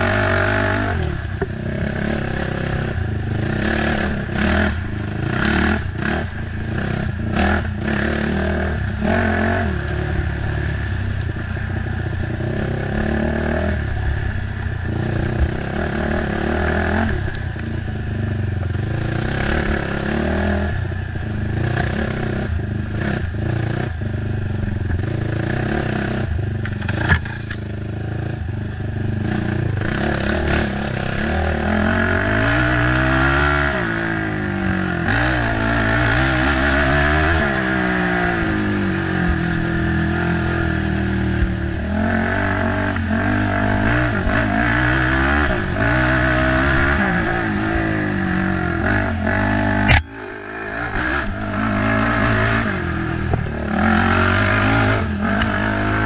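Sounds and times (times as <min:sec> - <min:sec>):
atv engine running hard: 0:00.0 - 0:56.0.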